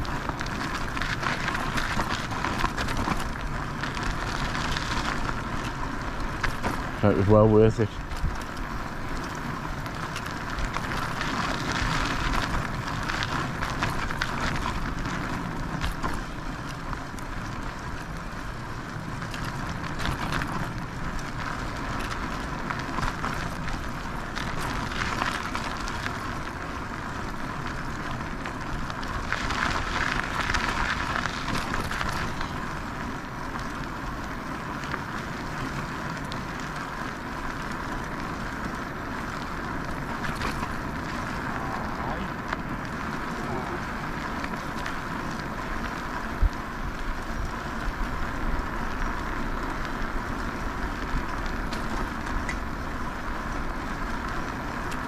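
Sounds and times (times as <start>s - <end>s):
tyres rolling over rough path: 0.0s - 55.0s.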